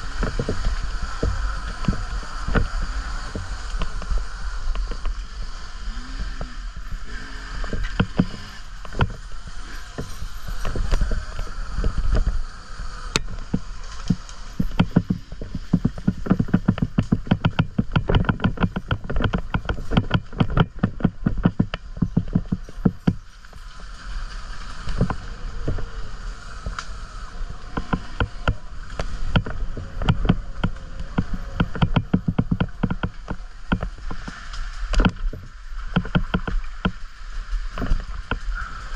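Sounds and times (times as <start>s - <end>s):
dirt bike rattling and knocking: 0.0s - 12.4s, 13.2s - 23.7s, 27.7s - 34.3s, 34.9s - 37.1s
wind on microphone: 0.0s - 38.9s.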